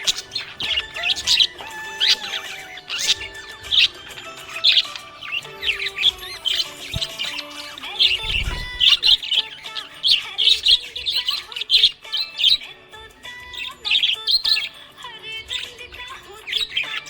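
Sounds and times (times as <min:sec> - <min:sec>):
parrots chirping and squawking: 0:00.0 - 0:17.0.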